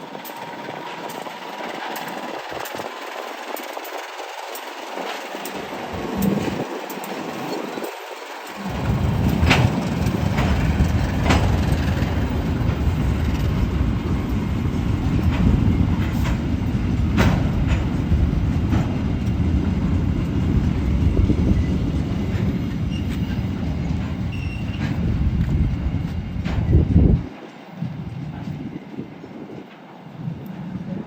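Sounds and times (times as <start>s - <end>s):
wheels clicking over rail joints: 0.0s - 27.6s
train rumbling past: 0.0s - 31.0s.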